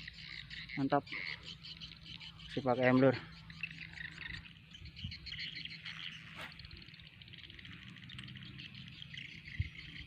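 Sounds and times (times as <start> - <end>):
frogs and insects chirping: 0.0 - 10.0.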